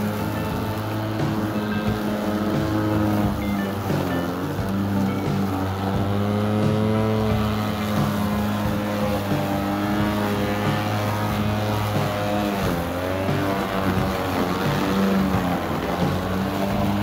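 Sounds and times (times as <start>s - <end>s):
electric lawn mower cutting grass: 0.0s - 17.0s.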